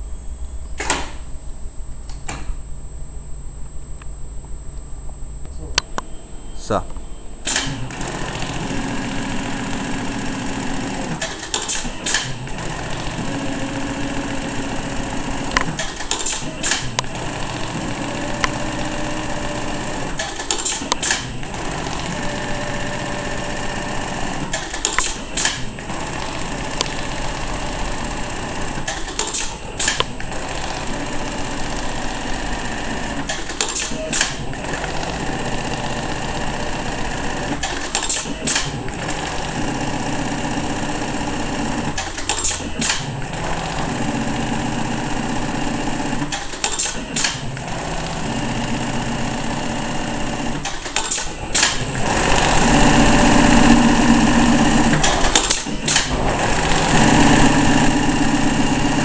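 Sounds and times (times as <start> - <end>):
motor hum: 0.0 - 59.0
sewing machine stitching: 7.5 - 59.0.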